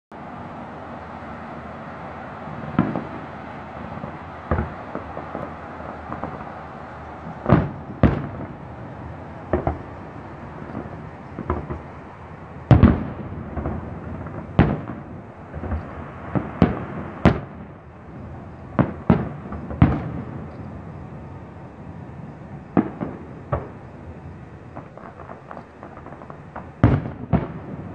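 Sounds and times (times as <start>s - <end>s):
background hiss: 0.1s - 27.9s
fireworks bangs: 0.3s - 27.9s.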